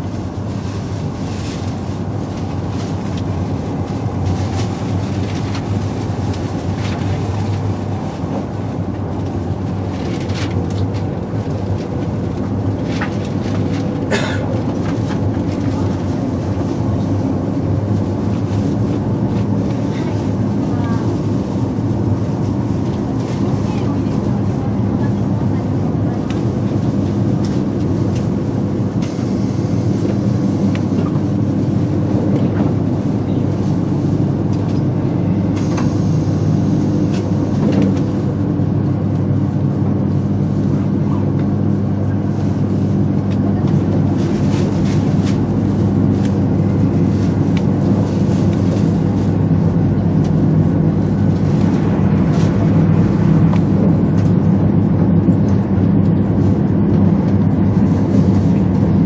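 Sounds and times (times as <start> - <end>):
passing train: 0.0 - 59.0
train wheels rumbling on rails: 0.0 - 59.0.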